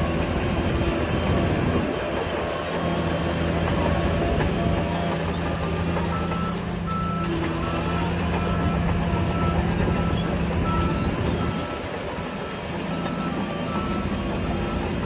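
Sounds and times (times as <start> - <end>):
diesel machine engine running: 0.0 - 15.0
reversing alarm beeping: 1.2 - 15.0.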